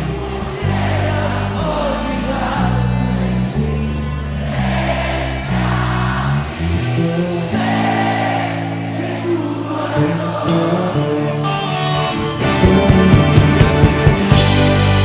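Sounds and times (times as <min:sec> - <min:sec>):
crowd singing together: 0:00.0 - 0:12.5
sustained keyboard chords: 0:00.0 - 0:15.0.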